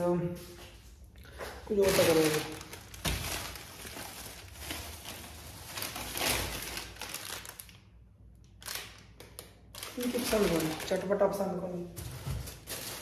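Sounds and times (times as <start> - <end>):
plastic packaging crinkling: 1.3 - 13.0.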